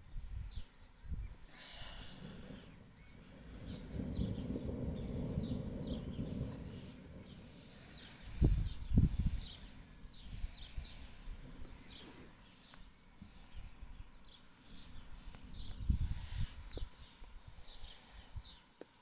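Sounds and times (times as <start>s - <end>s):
small birds chirping: 0.0s - 19.0s
distant thunder rumble: 1.2s - 17.4s.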